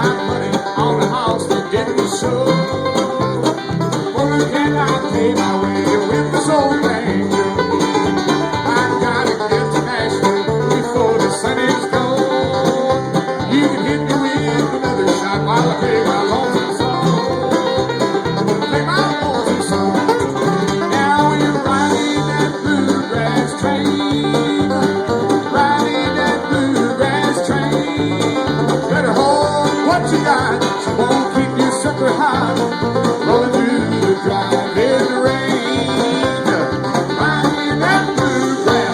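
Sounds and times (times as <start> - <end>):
fast picked string leads: 0.0 - 38.9
strummed guitar: 0.0 - 38.9.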